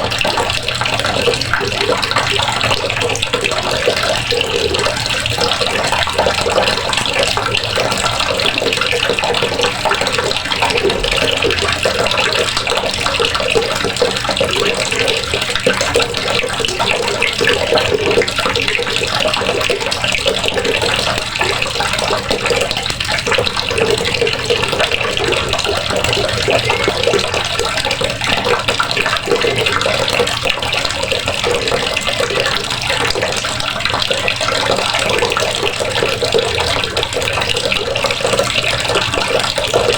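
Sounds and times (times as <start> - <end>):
water running from faucet: 0.0 - 39.9.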